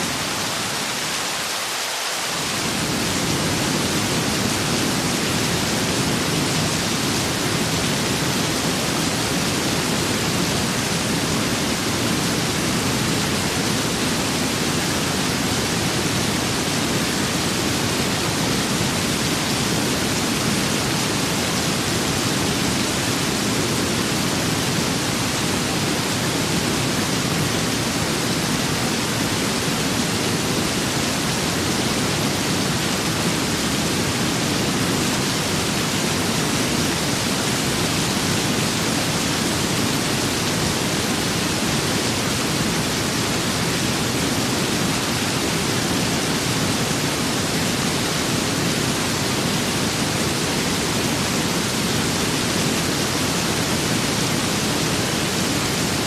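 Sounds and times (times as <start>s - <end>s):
steady rain hiss: 0.0s - 56.0s
wind: 0.0s - 56.0s.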